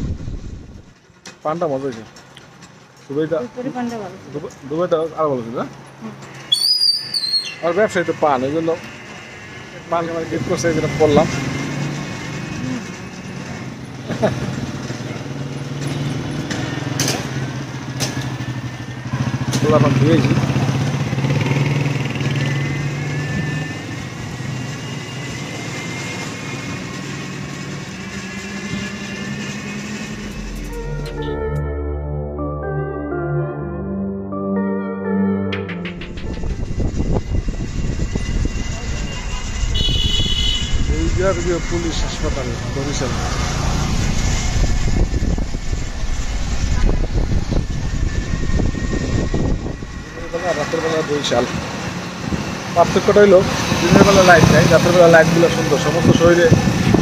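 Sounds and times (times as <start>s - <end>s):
road noise: 0.0s - 31.6s, 35.6s - 57.0s
motor vehicle running: 0.0s - 33.4s, 35.5s - 57.0s.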